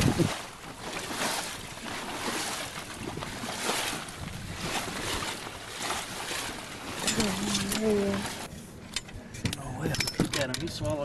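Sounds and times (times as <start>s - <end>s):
water rushing along boat hull: 0.0s - 11.0s.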